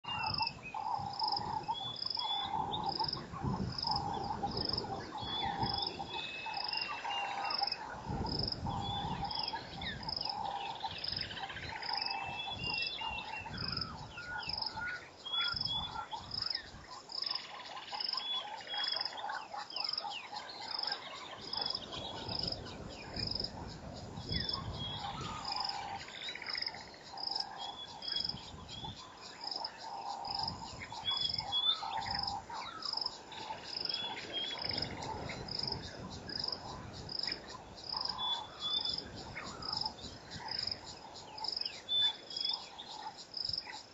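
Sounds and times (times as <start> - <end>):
birds chirping and whistling: 0.1 - 43.0.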